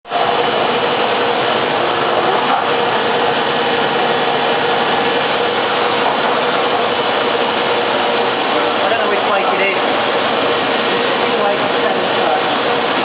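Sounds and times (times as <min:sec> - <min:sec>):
machining centre running: 0:00.1 - 0:13.0.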